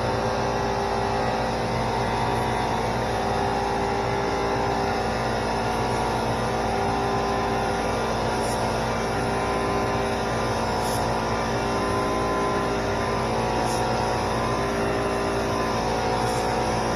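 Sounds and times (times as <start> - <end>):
motor hum: 0.0 - 16.9.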